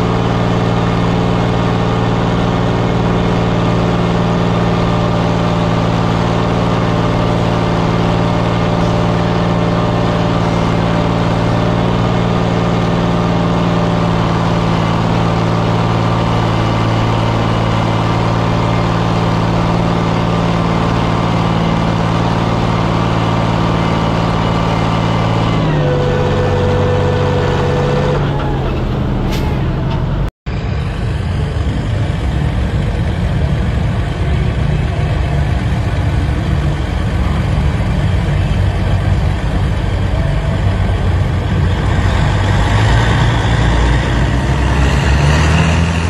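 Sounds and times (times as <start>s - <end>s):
tractor engine at full throttle: 0.0s - 46.0s.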